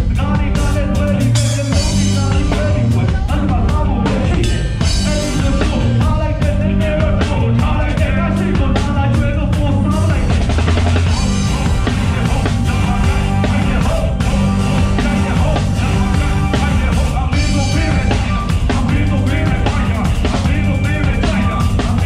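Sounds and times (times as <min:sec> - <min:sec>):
drum kit beats: 0:00.0 - 0:22.0
live rock band playing: 0:00.0 - 0:22.0.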